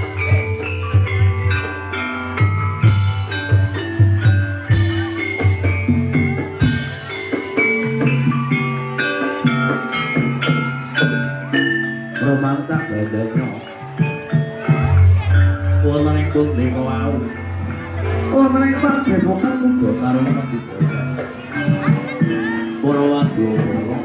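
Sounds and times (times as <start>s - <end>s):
metallophones playing melody: 0.0s - 24.0s.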